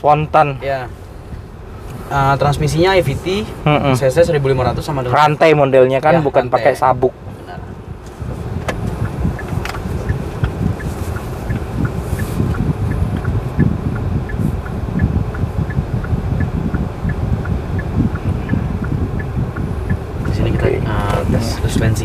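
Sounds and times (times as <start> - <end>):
car engine and tyres rumbling: 0.0 - 22.0
turn signal ticking: 0.0 - 22.0.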